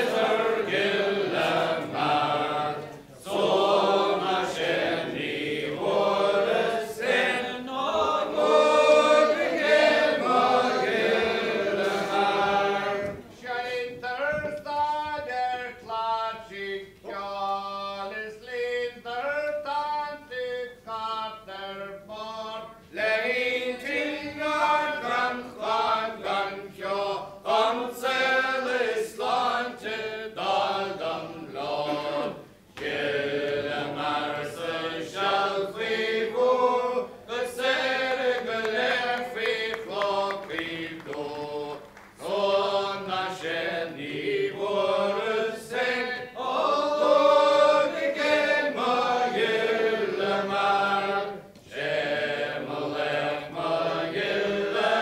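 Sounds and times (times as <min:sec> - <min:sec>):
voices singing: 0:00.0 - 0:55.0.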